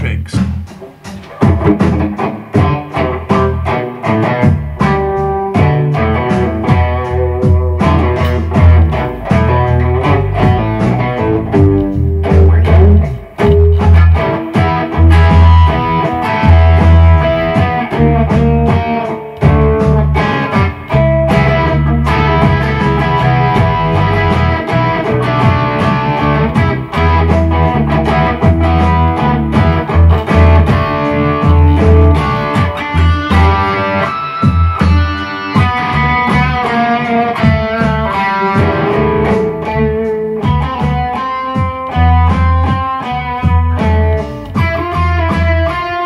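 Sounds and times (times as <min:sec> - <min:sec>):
electric guitar bluesy riff: 0:00.0 - 0:46.0
heavy bass guitar line: 0:00.0 - 0:46.0
slow hip-hop drum loop: 0:00.0 - 0:46.0.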